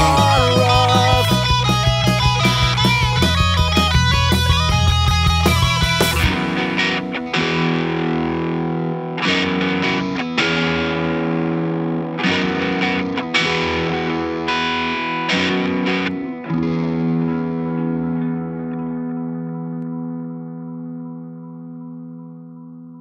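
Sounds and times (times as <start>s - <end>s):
distorted electric guitar chords: 0.0s - 23.0s.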